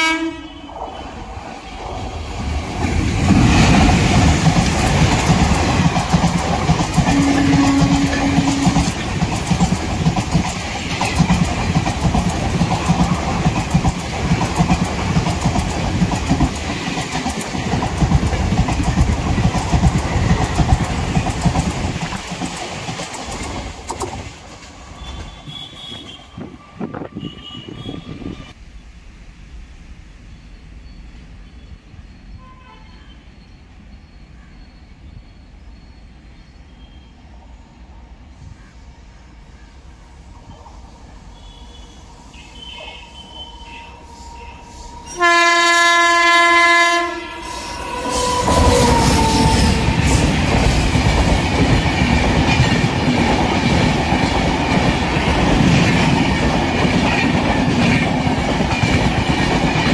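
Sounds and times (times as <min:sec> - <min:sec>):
train passing at speed: 0:00.0 - 0:59.9.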